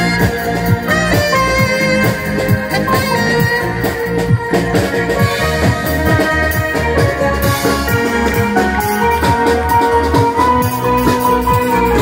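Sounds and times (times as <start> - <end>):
jazz band music: 0.0 - 12.0
steady drum beat: 0.0 - 12.0.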